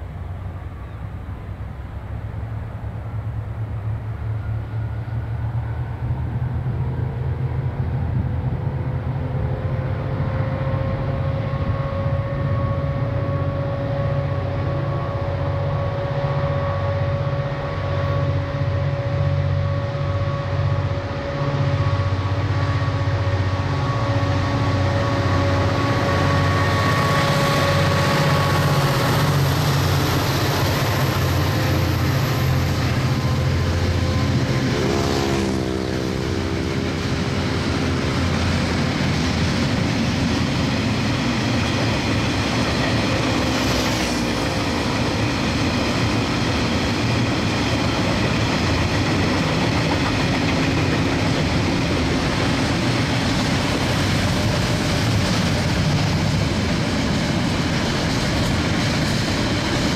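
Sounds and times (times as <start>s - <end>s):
locomotive engine throb: 8.6s - 59.9s.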